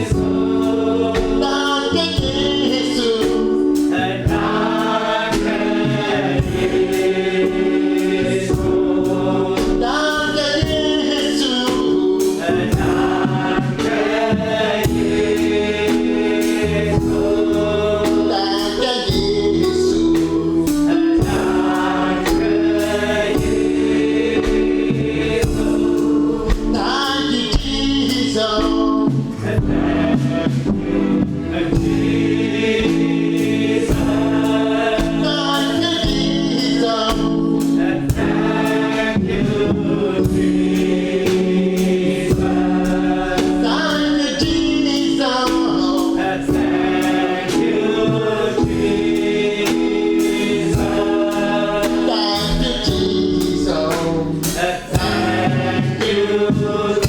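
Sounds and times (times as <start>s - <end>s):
bass line: 0.0s - 57.0s
gospel choir singing: 0.0s - 57.0s
percussion: 0.0s - 57.0s.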